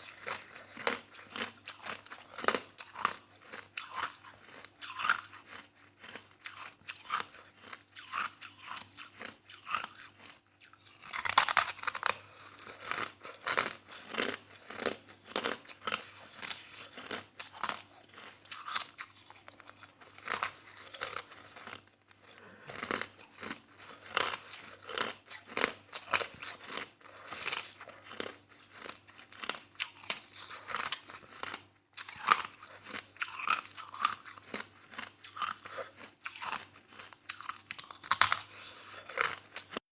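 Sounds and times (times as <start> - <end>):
chewing crushed ice: 0.0 - 39.8.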